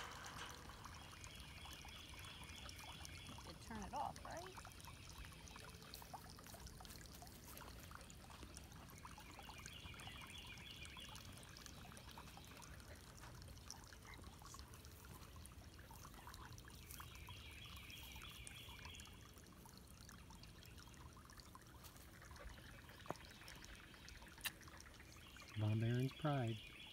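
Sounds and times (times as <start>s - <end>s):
trickle of running water: 0.0s - 26.9s.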